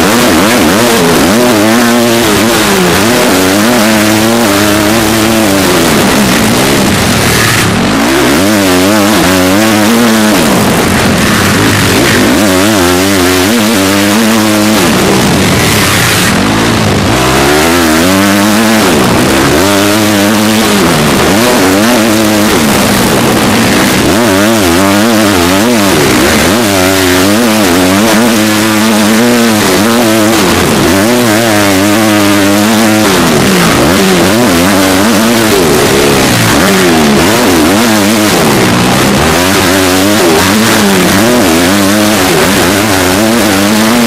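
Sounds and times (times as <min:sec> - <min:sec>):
motocross bike engine revving: 0:00.0 - 0:44.0
steady rushing noise: 0:00.0 - 0:44.0.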